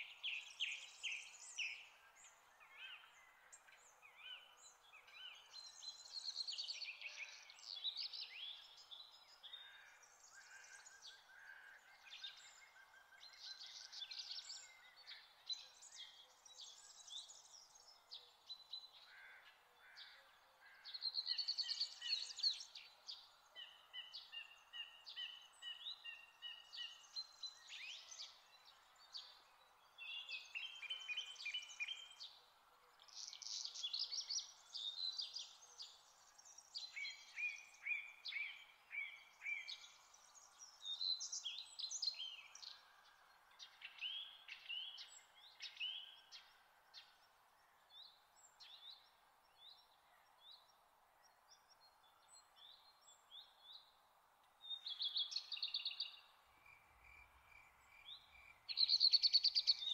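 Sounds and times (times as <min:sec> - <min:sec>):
faint background noise: 0:00.0 - 0:59.9
songbirds singing: 0:00.0 - 0:59.9.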